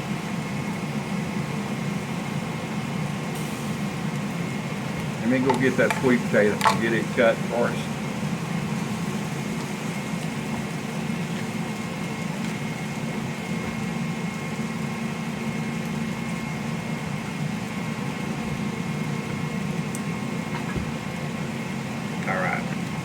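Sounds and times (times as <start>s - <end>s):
kitchen appliance humming: 3.4s - 23.0s.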